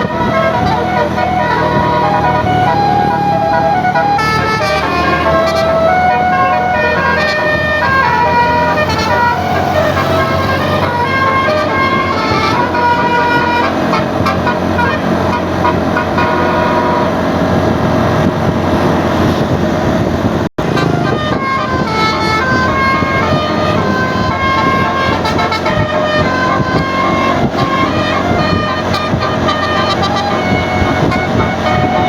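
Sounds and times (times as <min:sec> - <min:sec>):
bus horn playing a tune: 0:00.0 - 0:19.0, 0:20.6 - 0:32.0.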